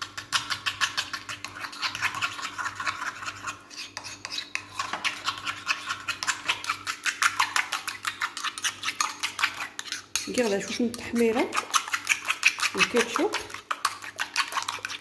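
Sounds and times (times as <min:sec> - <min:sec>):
fork beating egg in ceramic bowl: 0:00.0 - 0:15.0.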